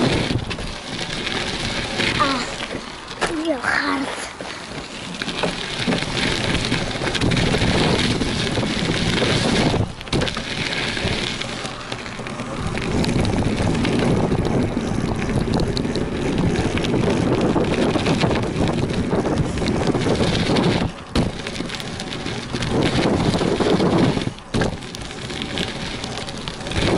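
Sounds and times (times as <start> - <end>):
tyre noise over dirt: 0.0 - 26.9
wind buffeting microphone: 0.0 - 26.9.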